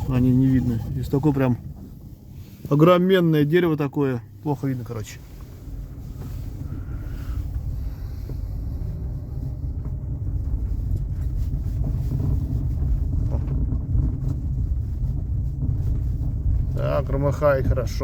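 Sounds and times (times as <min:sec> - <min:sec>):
clunks and rattles: 0:00.0 - 0:18.0
road rumble inside car: 0:00.0 - 0:18.0.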